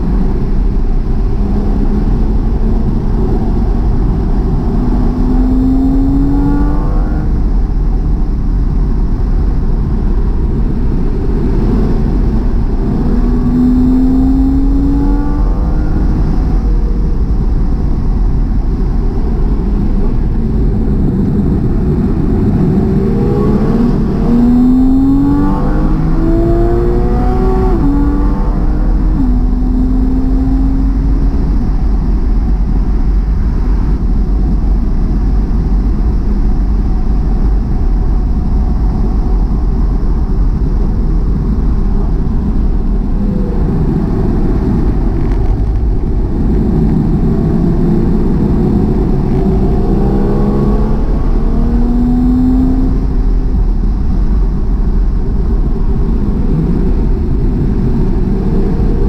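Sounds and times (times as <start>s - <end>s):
car engine rumbling: 0.0s - 59.0s
road and wind noise: 0.0s - 59.0s.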